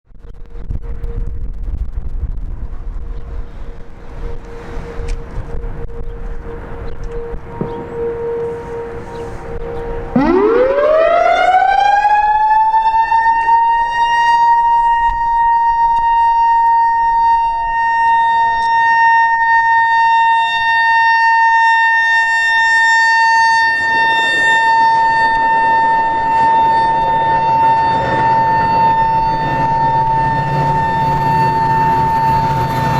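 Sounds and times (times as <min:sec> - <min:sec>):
warning siren steady tone: 0:00.2 - 0:32.9.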